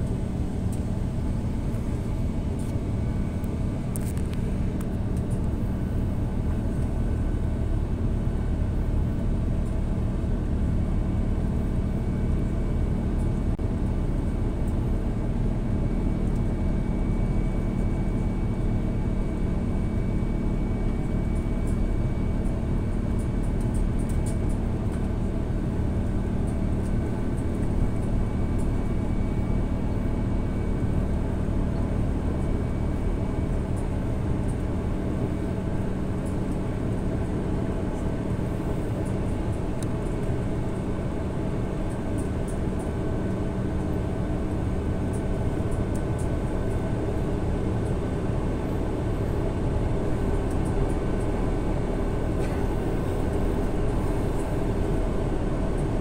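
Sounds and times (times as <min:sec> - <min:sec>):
jet engine and airflow rush: 0:00.0 - 0:14.0, 0:15.1 - 0:56.0.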